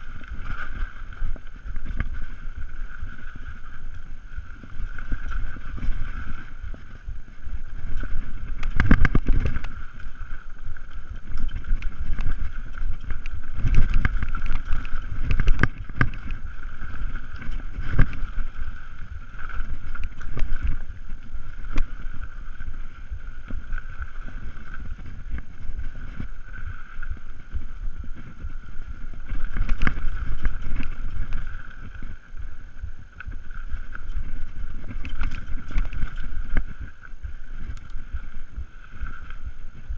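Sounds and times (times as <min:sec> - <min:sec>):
bike rattling over bumps: 0:00.0 - 0:39.9
bike rumble: 0:00.0 - 0:39.9
steady high hum: 0:00.0 - 0:39.9
wind buffeting microphone: 0:00.0 - 0:39.9.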